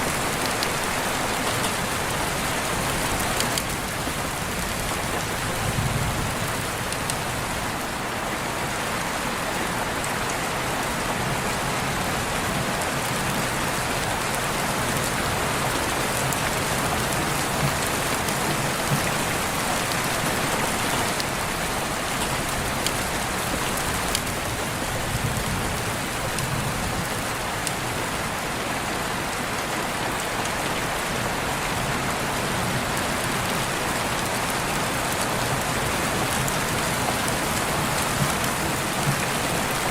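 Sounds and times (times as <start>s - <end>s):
raindrops striking a surface: 0.0s - 39.9s
steady rain: 0.0s - 39.9s.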